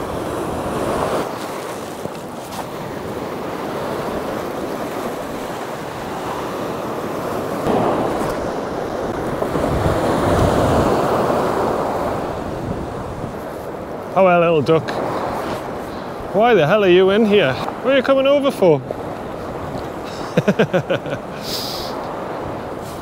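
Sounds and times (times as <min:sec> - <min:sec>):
wind buffeting microphone: 0:00.0 - 0:18.0, 0:18.8 - 0:20.4
surf breaking on shore: 0:00.0 - 0:23.0.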